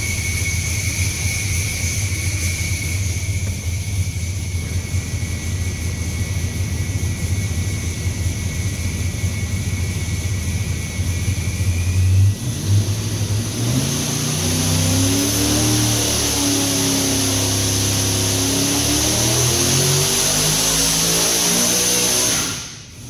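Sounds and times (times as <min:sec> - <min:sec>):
engine idling and revving: 0:00.0 - 0:23.0
supercharger whine: 0:00.0 - 0:23.0.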